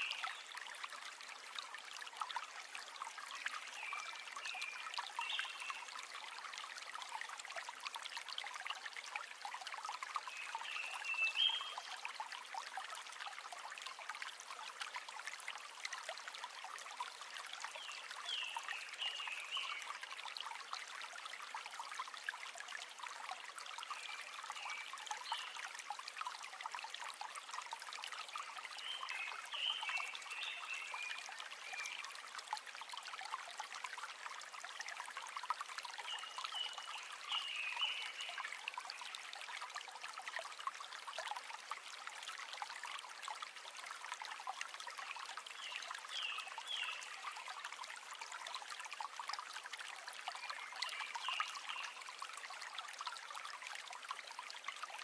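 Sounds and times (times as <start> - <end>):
river water trickling: 0.0 - 55.0.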